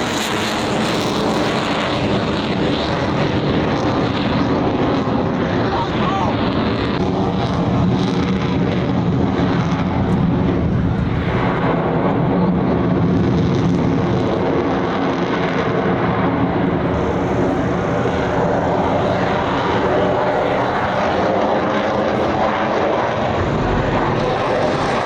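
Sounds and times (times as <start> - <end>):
pitched hum: 0.0 - 14.4, 16.0 - 25.0
aircraft engine noise: 0.0 - 25.0.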